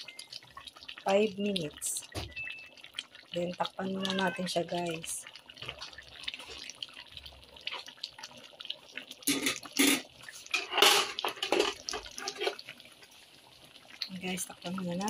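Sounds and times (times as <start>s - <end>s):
stew bubbling in a pan: 0.0s - 15.0s.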